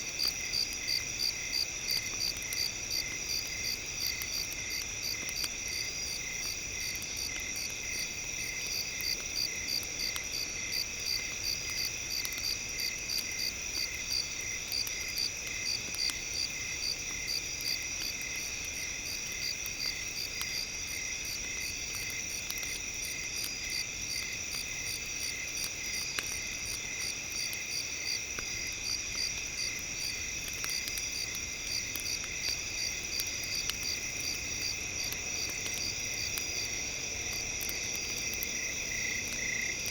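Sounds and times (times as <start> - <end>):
campfire crackling: 0.0 - 39.9
crickets chirping: 0.1 - 39.9.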